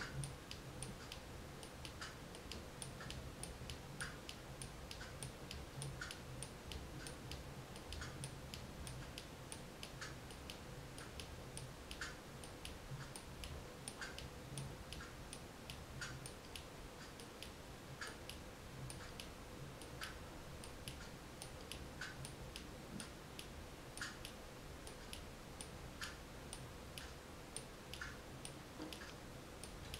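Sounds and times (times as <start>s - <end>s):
faint steady hum: 0.0s - 29.9s
mechanism ticking: 0.0s - 29.9s.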